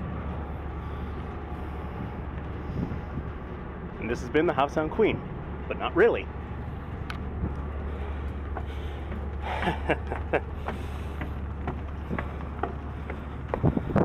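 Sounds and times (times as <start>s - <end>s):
ferry engine drone: 0.0s - 14.0s
footsteps on metal stairs: 0.0s - 14.0s.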